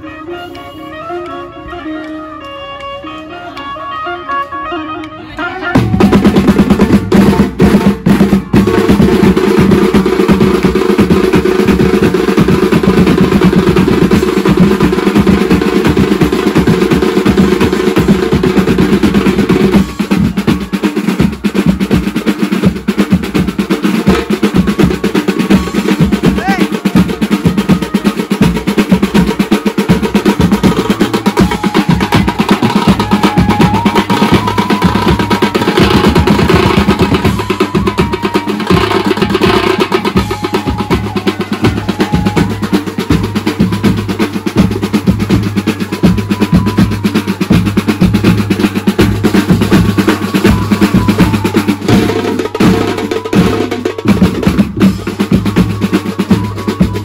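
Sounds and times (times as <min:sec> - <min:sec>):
fast drumming: 0:05.7 - 0:57.0.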